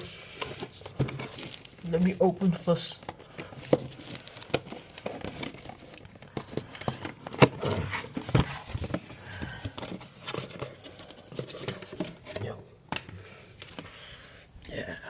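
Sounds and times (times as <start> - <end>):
clicks and knocks of packaging: 0.0 - 13.9.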